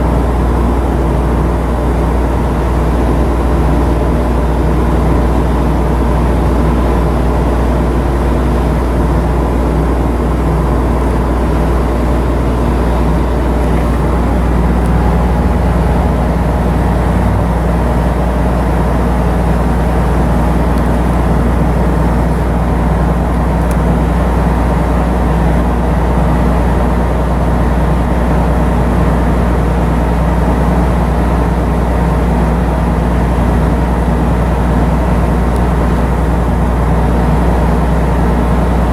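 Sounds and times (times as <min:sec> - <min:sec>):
ship diesel engine droning: 0:00.0 - 0:38.9.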